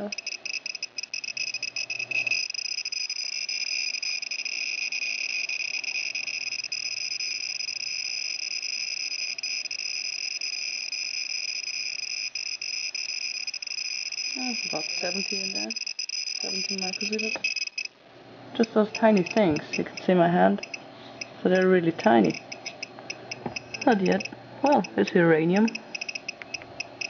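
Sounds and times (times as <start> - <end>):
geiger counter clicking: 0.0 - 18.0, 18.6 - 27.0.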